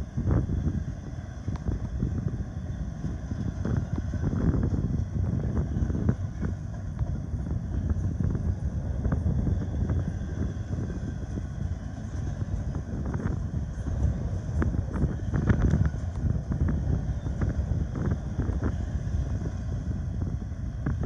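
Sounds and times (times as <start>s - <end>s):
freight train wheels rumbling: 0.0s - 21.0s
train clicks and clanks: 0.0s - 21.0s.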